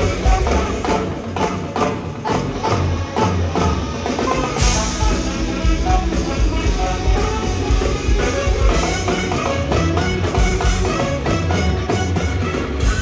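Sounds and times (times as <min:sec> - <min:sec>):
live rock band: 0:00.0 - 0:13.0
saxophone solo: 0:00.0 - 0:13.0.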